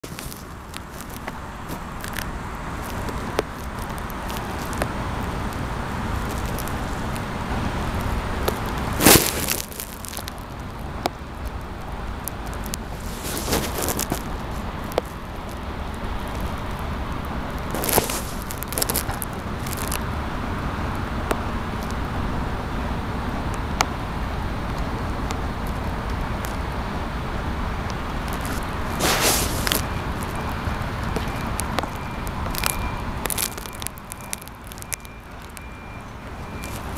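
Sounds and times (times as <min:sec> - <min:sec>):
distant road traffic hum: 0:00.0 - 0:36.9.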